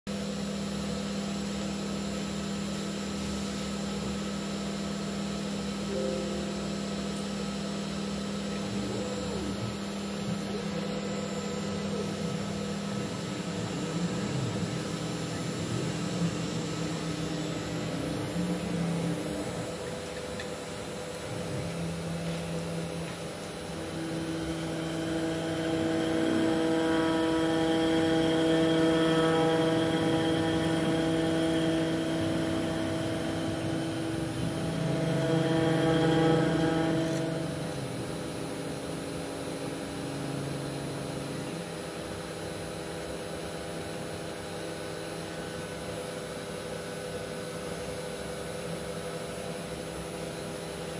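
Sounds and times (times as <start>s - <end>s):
cnc machine motor whine: 0.1s - 50.9s.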